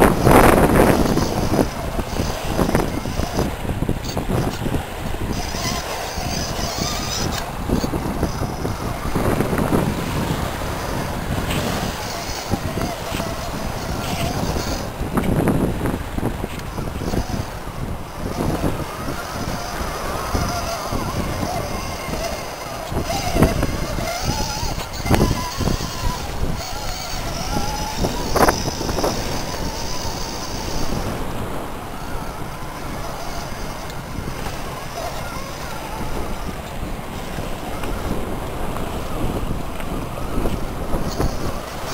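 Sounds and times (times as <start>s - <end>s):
electric motor and gears whining: 0.0s - 41.9s
surf washing over rocks: 0.0s - 41.9s
wind rumbling on microphone: 0.0s - 41.9s.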